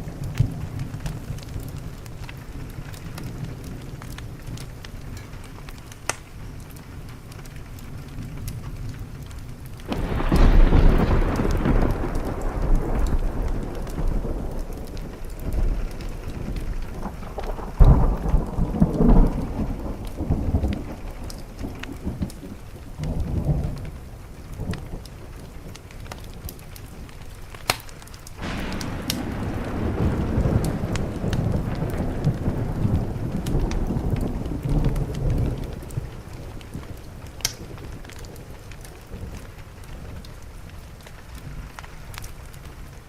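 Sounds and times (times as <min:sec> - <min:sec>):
steady rain pattering: 0:00.0 - 0:43.0
thunder rumbling: 0:00.0 - 0:43.0.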